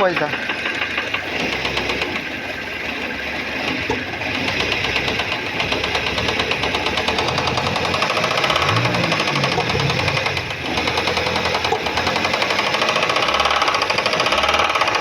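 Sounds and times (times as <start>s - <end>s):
car engine idling: 0.0s - 15.0s
rapid knocking inside engine: 0.0s - 15.0s.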